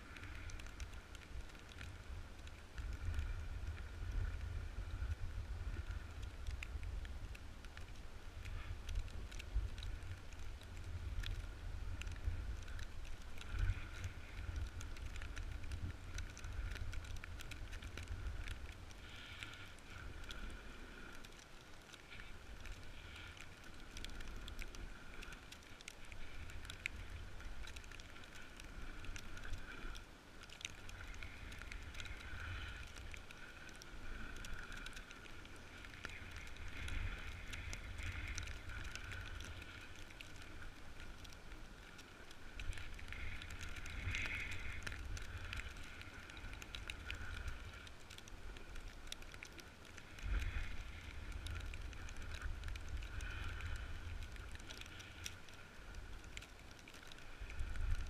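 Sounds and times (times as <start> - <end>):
small ticks and clicks: 0.0 - 58.0.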